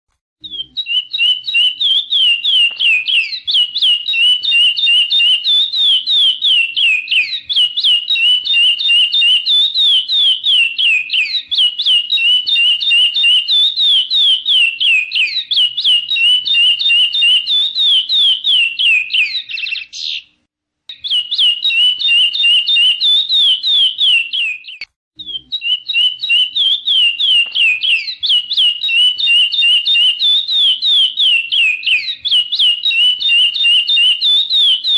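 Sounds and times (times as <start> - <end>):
bird whistling song: 0.4 - 34.9.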